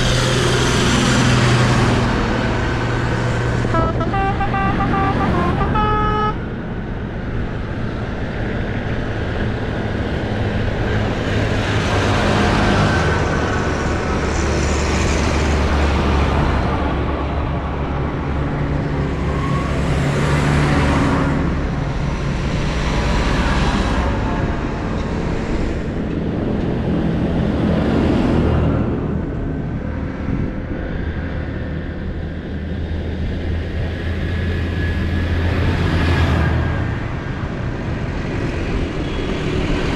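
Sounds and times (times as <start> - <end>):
tractors driving past: 0.0 - 32.3.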